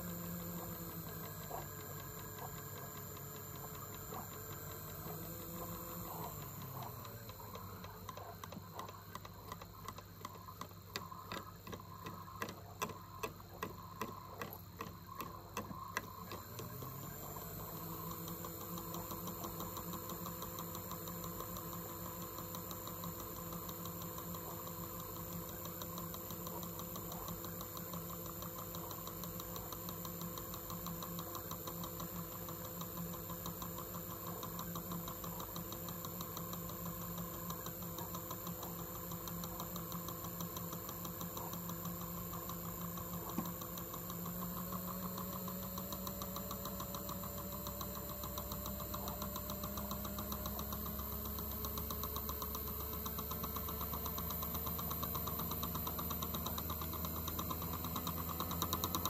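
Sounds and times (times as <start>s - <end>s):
small motor humming: 0.0s - 59.0s.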